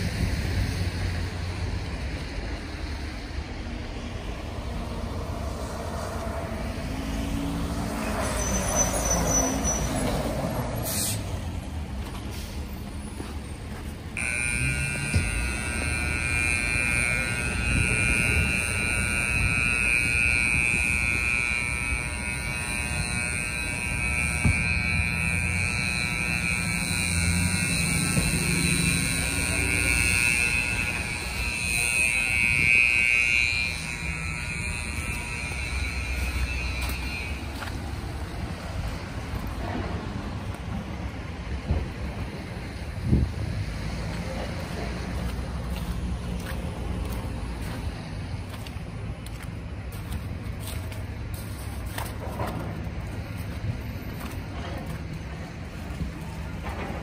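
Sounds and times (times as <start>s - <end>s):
heavy vehicle engine running: 0.0s - 57.0s
high-pitched whine: 0.0s - 57.0s
street traffic: 0.0s - 57.0s.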